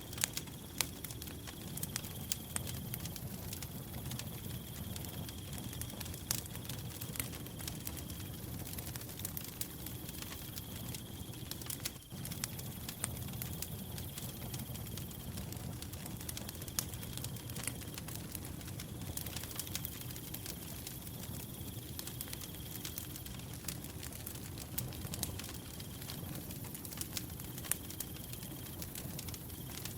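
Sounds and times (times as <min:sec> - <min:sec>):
firewood crackling and popping: 0:00.0 - 0:29.9.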